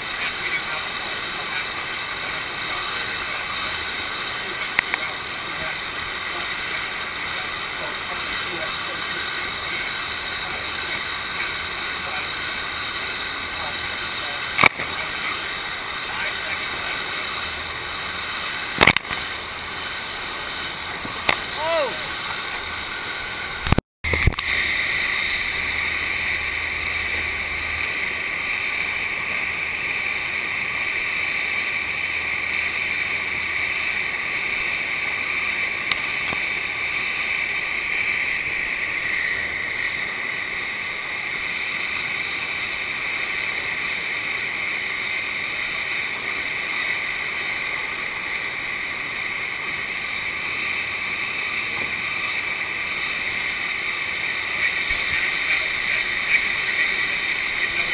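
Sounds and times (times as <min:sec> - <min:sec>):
water rushing: 0:00.0 - 0:57.9.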